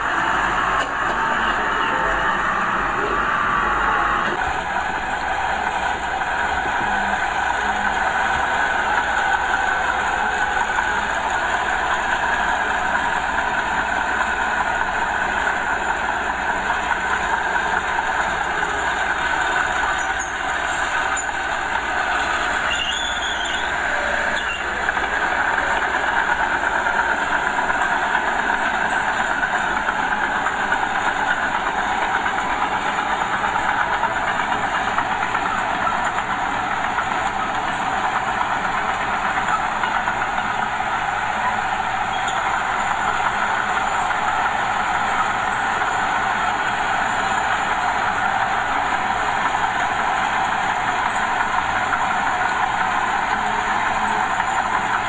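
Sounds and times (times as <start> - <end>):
diesel engine running: 0.0 - 55.0
steel tracks clattering: 0.0 - 55.0.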